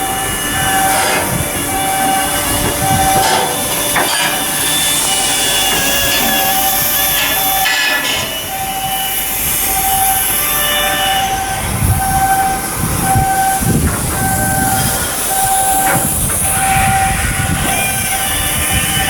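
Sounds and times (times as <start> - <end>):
machinery noise: 0.0 - 19.0.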